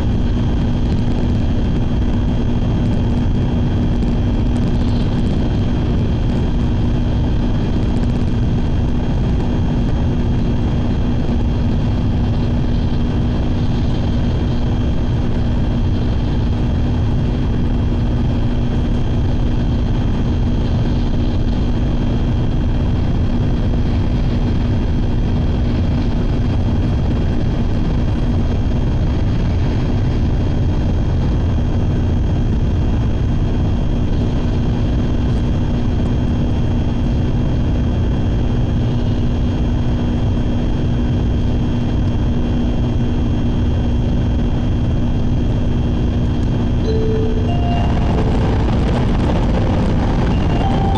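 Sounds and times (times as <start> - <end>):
constant hum: 0.0 - 37.1, 42.8 - 50.9.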